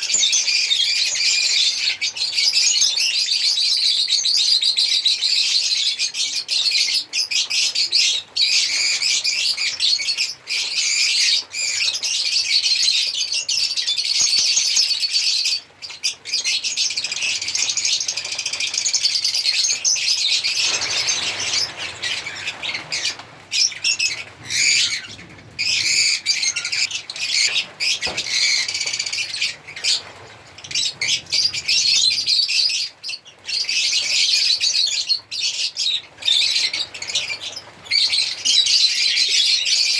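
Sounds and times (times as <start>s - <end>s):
lovebirds chirping and chattering: 0.0s - 39.9s.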